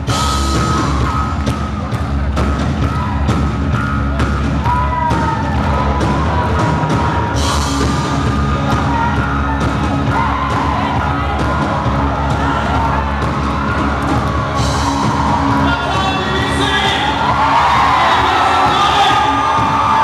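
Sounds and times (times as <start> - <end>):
bass guitar: 0.0 - 20.0
steady drum beat: 0.0 - 20.0.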